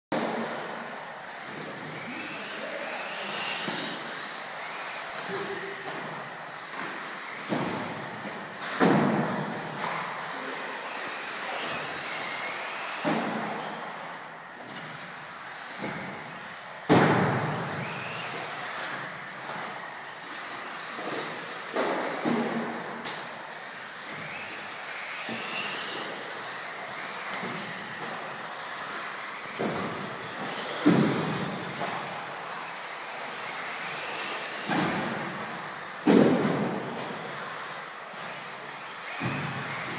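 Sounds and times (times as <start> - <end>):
rc car motor whine: 0.2 - 39.9.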